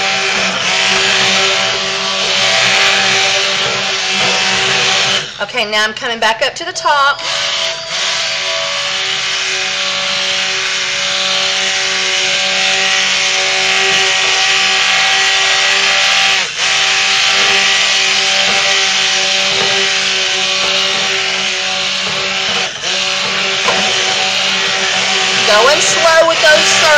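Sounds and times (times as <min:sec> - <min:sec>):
stick blender motor whine: 0:00.0 - 0:05.9, 0:07.1 - 0:26.9.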